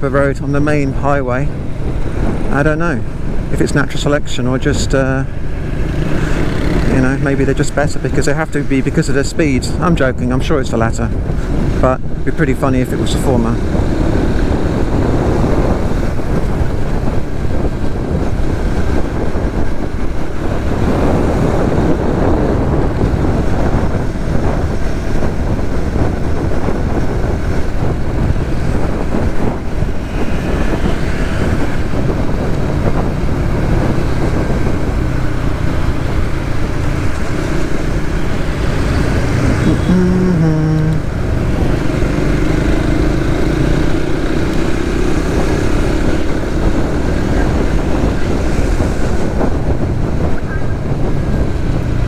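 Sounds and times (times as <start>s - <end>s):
wind rushing over microphone: 0.0s - 52.0s
motorcycle engine running: 0.1s - 3.5s, 5.1s - 8.8s, 11.0s - 52.0s.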